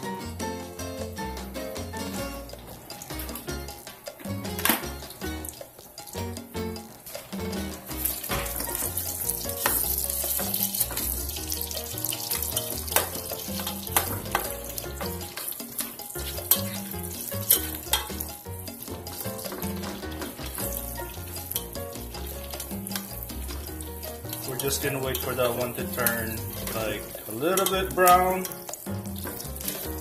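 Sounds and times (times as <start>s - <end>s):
onions sizzling in hot oil: 2.5s - 30.0s.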